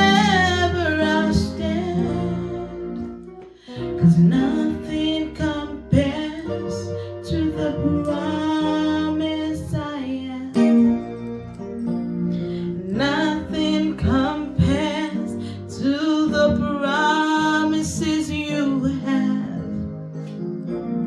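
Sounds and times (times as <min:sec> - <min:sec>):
person singing: 0:00.0 - 0:11.0, 0:12.4 - 0:19.8
guitar and keyboard accompaniment: 0:00.0 - 0:21.0.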